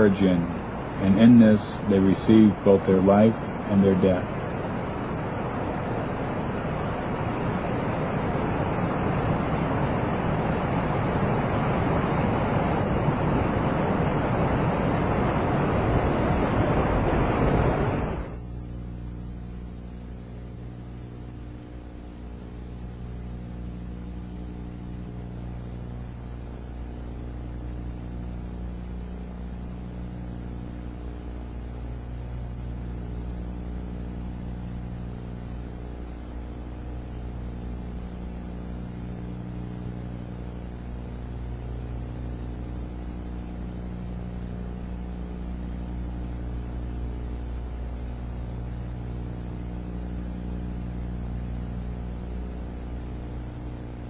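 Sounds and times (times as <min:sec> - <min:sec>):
low hum of held tones: 0:00.0 - 0:54.0
steady rushing noise: 0:00.0 - 0:54.0.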